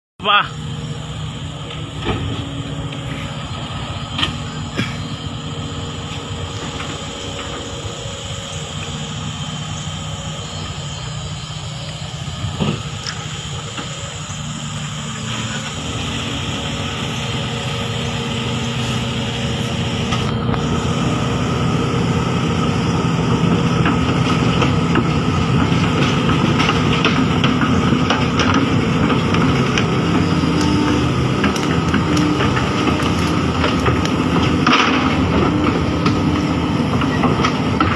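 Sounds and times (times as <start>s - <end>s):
heavy diesel engine running: 0.2s - 37.9s.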